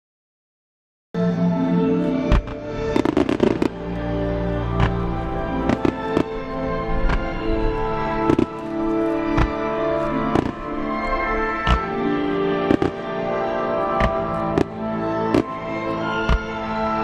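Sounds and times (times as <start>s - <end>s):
steady music: 1.2s - 17.0s.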